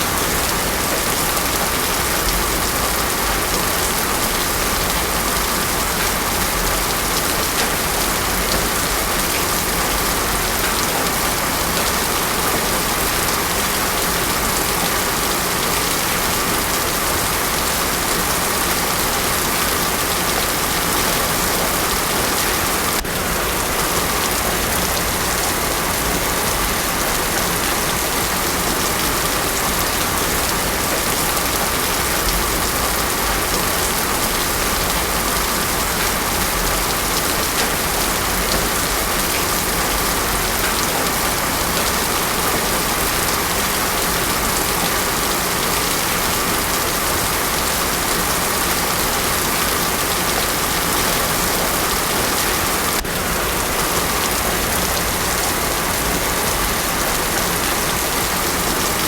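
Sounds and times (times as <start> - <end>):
heavy rain on a road: 0.0 - 59.0.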